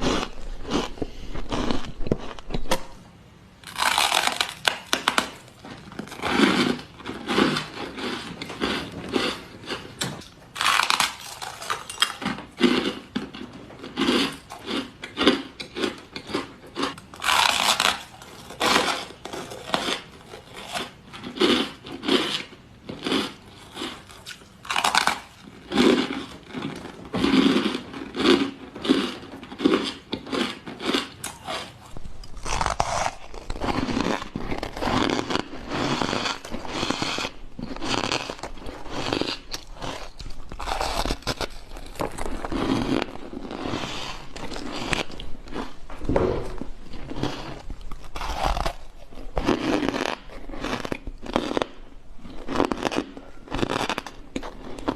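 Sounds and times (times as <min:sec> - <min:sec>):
ice crunching between teeth: 0:00.0 - 0:02.8, 0:03.6 - 0:45.8, 0:47.0 - 0:54.9.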